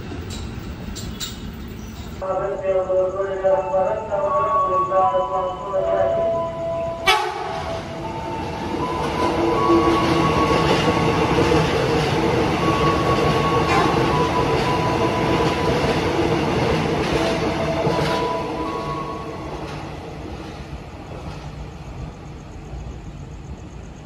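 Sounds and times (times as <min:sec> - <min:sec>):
train wheels rumbling on rail: 0:00.0 - 0:05.8, 0:06.7 - 0:24.0.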